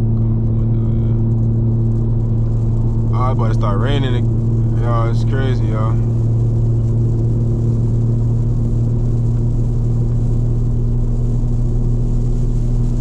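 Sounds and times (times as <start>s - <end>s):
car exhaust droning: 0.0s - 13.0s.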